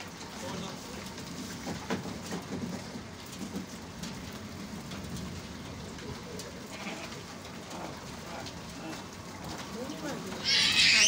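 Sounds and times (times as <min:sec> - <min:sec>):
rain splashing on concrete: 0:00.0 - 0:11.0.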